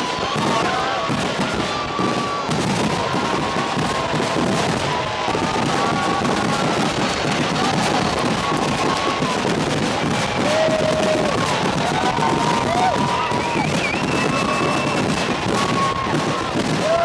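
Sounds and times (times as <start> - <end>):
fireworks crackling: 0.0 - 17.0
whistling fireworks: 0.0 - 17.0.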